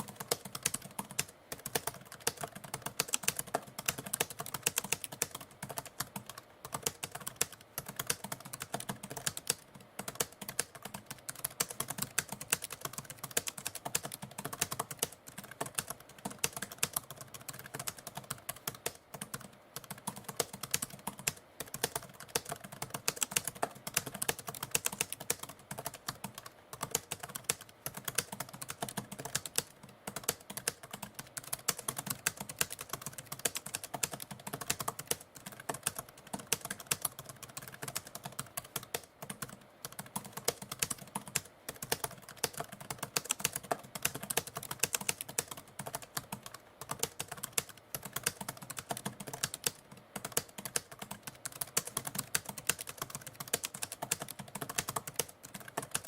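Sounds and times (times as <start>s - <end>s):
typewriter typing: 0.0s - 56.0s.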